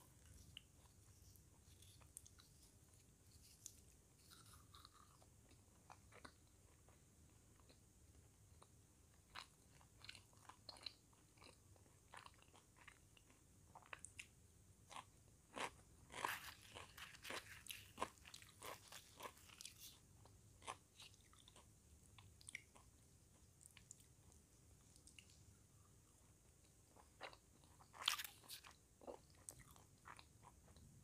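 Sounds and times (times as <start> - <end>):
crunching and chewing vegetables: 0.0 - 7.8, 8.5 - 31.0.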